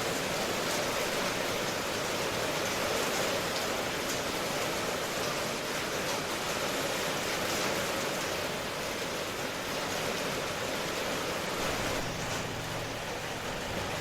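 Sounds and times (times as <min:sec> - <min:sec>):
steady rainfall hiss: 0:00.0 - 0:14.0.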